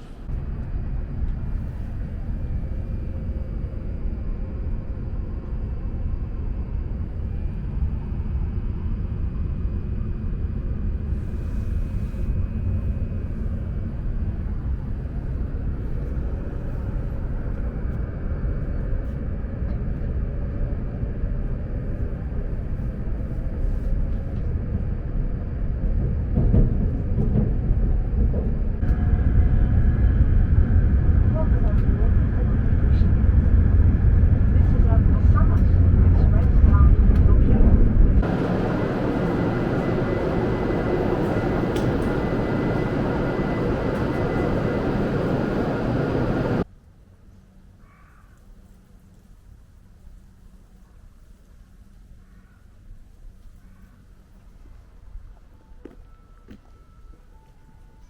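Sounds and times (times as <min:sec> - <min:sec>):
train running rumble: 0:00.0 - 0:46.7.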